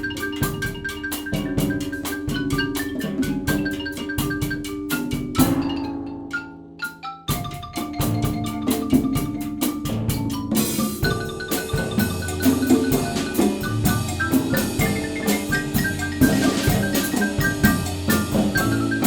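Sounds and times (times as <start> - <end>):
drums: 0.0 - 19.0
mallet instruments: 0.0 - 19.0
xylophone melody: 0.0 - 19.0.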